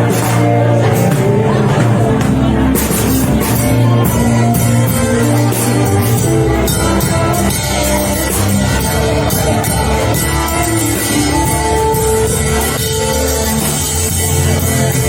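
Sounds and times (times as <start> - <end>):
bass line: 0.0 - 15.0
drums: 0.0 - 15.0
held keyboard or guitar chords: 0.0 - 15.0
worship band playing: 0.0 - 15.0.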